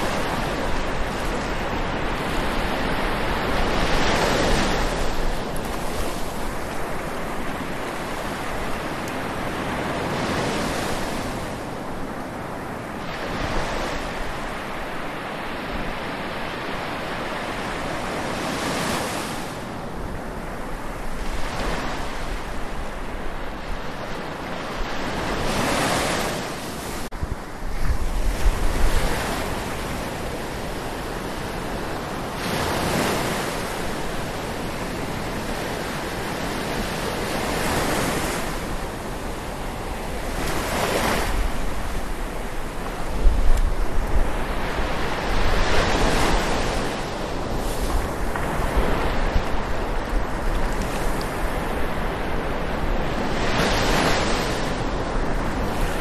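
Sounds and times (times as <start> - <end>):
waves washing onto shore: 0.0 - 56.0
wind buffeting microphone: 0.0 - 56.0.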